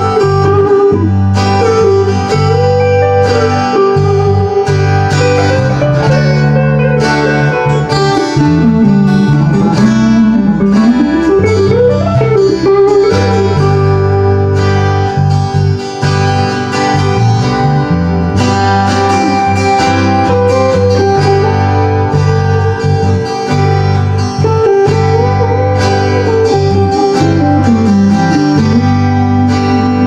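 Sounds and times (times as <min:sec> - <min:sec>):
acoustic guitars jamming: 0:00.0 - 0:30.0.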